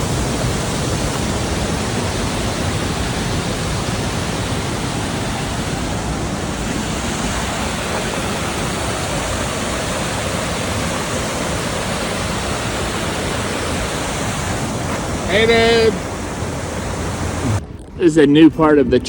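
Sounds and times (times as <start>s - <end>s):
water rushing over rocks: 0.0s - 17.6s.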